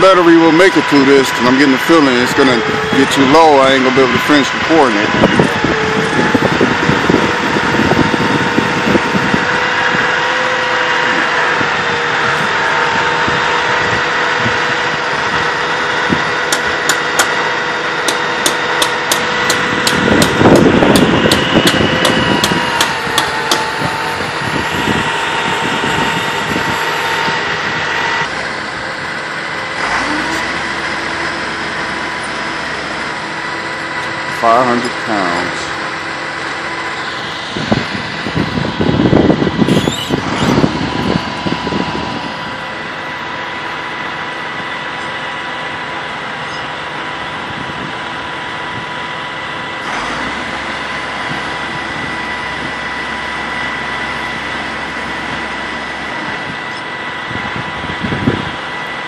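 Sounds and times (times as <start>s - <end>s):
truck engines idling: 0.0s - 59.0s.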